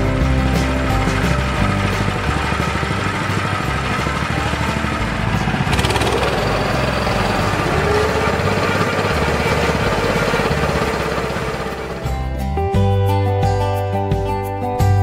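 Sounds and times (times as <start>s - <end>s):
small engine running steadily: 0.0s - 12.9s.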